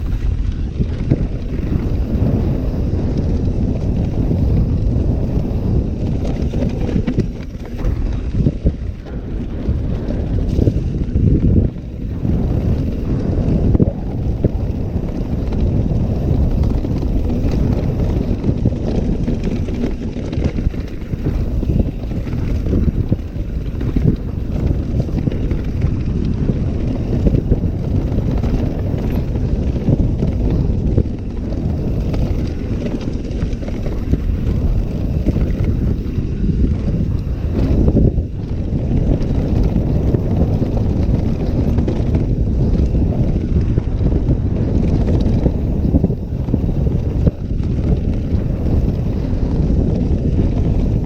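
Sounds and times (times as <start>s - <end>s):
bike tyres rattling on dirt trail: 0.0s - 51.0s
wind buffeting microphone: 0.0s - 51.0s.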